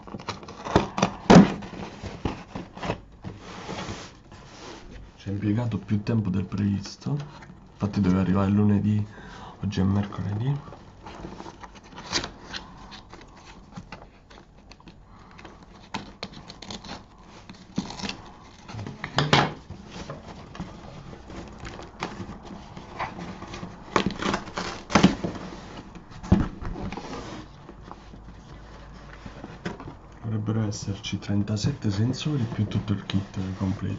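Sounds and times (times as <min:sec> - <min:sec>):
hands handling cardboard: 0:00.0 - 0:08.4, 0:09.8 - 0:33.9.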